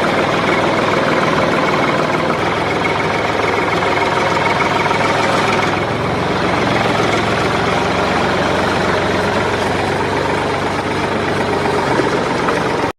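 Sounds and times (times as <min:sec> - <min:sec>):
small tractor engine running: 0:00.0 - 0:12.9.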